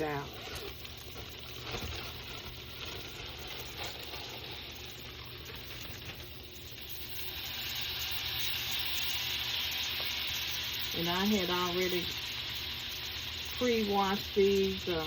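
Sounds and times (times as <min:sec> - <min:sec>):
bacon sizzling in a frying pan: 0:00.0 - 0:15.0.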